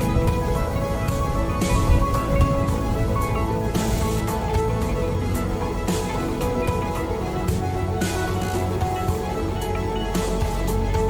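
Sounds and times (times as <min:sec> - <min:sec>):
heavy bass line: 0:00.0 - 0:11.0
music with steady beat: 0:00.0 - 0:11.0.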